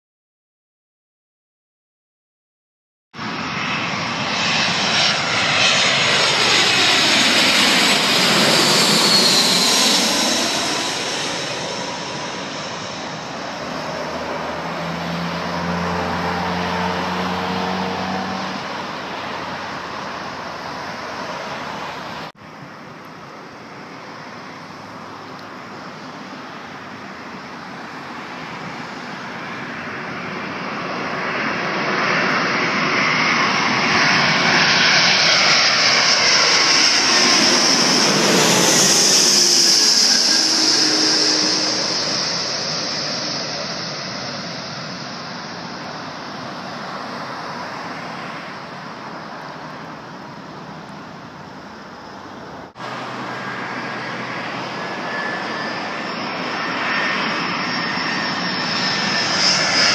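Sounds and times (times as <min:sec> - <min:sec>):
jet airliner passing overhead: 0:03.2 - 0:59.9.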